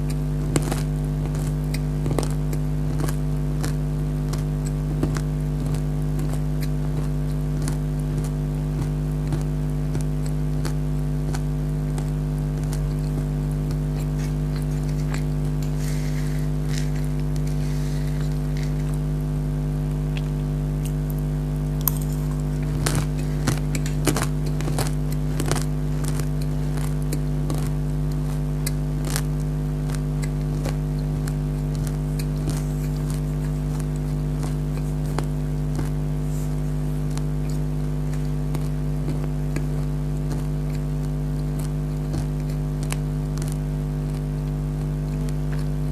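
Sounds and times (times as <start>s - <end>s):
crunchy snack chewing: 0.0s - 45.9s
low hum: 0.0s - 45.9s.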